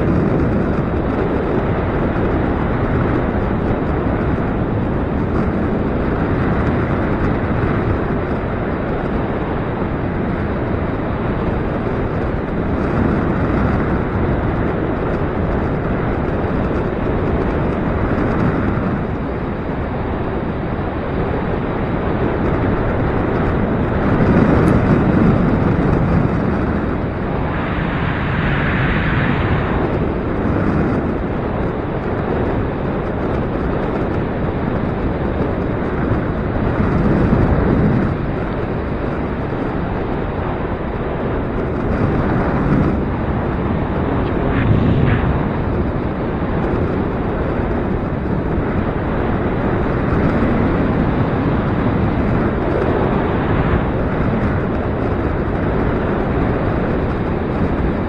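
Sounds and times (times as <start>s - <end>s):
gusty wind buffeting microphone: 0.0s - 58.0s.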